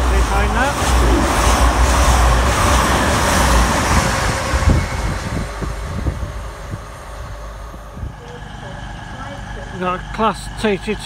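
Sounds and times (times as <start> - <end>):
train passing at high speed: 0.0 - 11.0.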